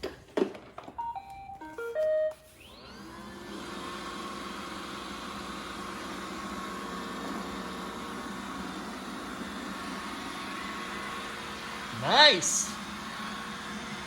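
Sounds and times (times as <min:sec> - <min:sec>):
robot vacuum humming: 0:01.8 - 0:14.0.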